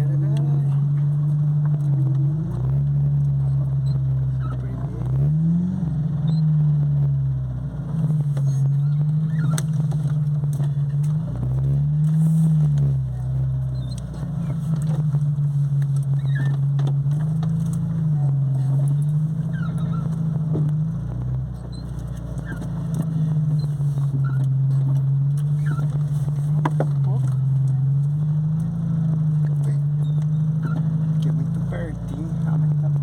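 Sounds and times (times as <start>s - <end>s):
car engine revving while driving: 0.0s - 33.0s.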